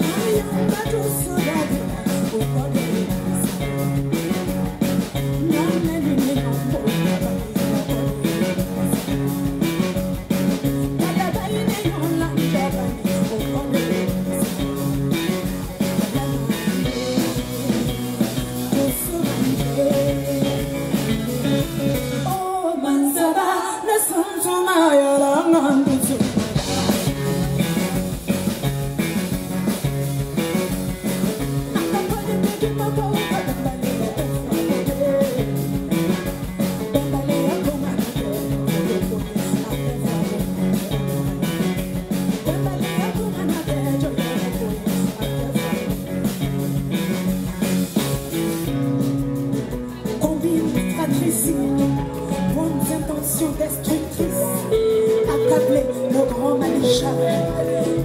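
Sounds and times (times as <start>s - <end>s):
drum kit steady beat: 0.0s - 22.6s, 25.7s - 58.0s
bass guitar: 0.0s - 23.3s, 24.0s - 58.0s
electric guitars: 0.0s - 58.0s
woman singing lead: 0.0s - 58.0s.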